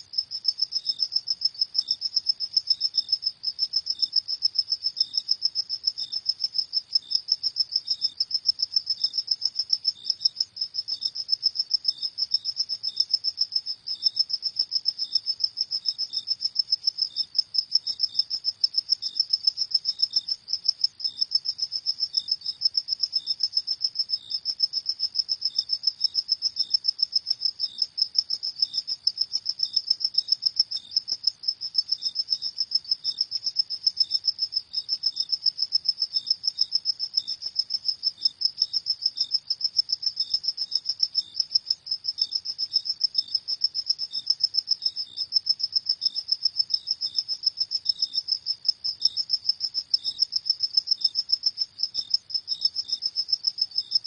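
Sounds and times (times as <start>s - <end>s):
lower slower insect chirp: 0.0s - 54.0s.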